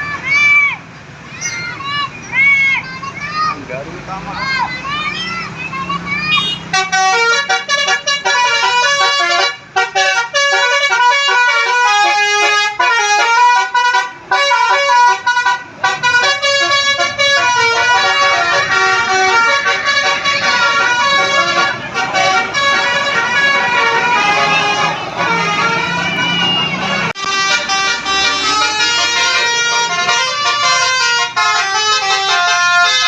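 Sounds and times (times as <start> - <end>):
musical air horn melody: 6.4 - 33.0.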